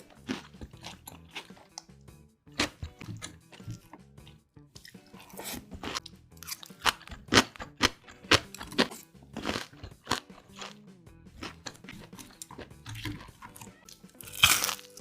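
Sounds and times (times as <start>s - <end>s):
crunching and chewing fried food: 0.0s - 15.0s.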